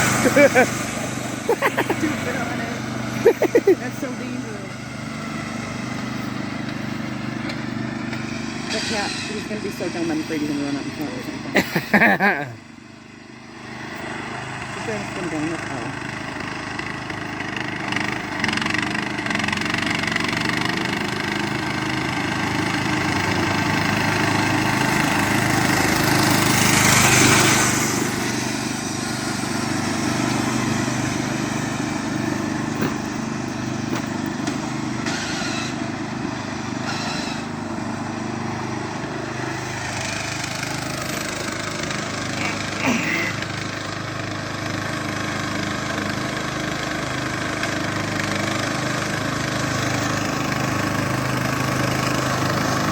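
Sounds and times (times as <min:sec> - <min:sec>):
riding lawnmower engine running: 0:00.0 - 0:52.9.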